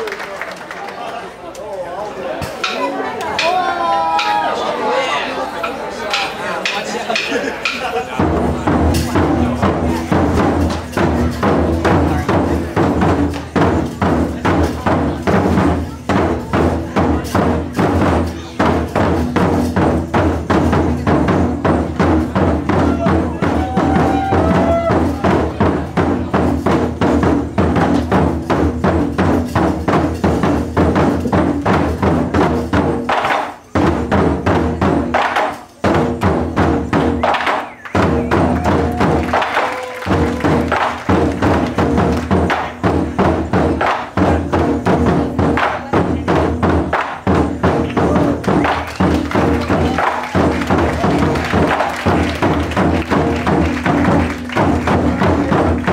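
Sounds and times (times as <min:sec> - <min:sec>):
taiko drum ensemble playing: 0:02.5 - 0:04.5, 0:06.1 - 0:55.9.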